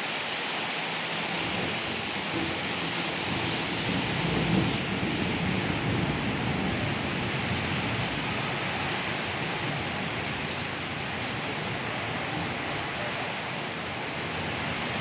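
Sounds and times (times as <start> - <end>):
rain falling on stone: 0.0 - 15.0.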